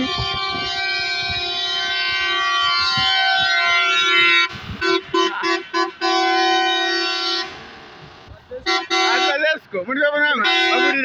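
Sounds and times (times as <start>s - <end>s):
bus horn: 0.0s - 7.8s, 8.6s - 9.5s, 10.4s - 11.0s.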